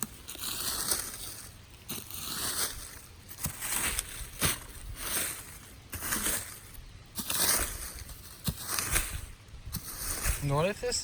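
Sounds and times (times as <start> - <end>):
dry leaves and twigs crunching: 0.0 - 11.0.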